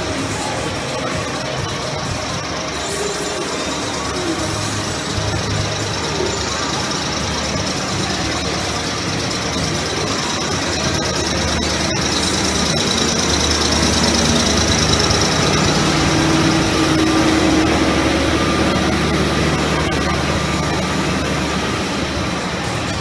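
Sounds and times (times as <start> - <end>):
ice resurfacing machine engine: 0.0 - 23.0.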